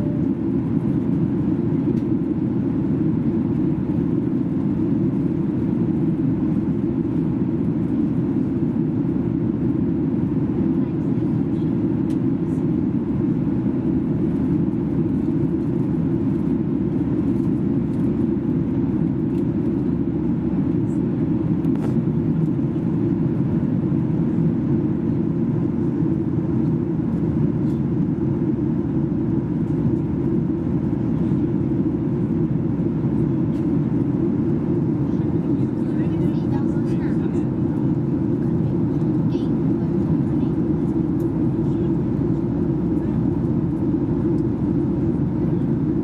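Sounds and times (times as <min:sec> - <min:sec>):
jet engine cabin roar: 0:00.0 - 0:46.0.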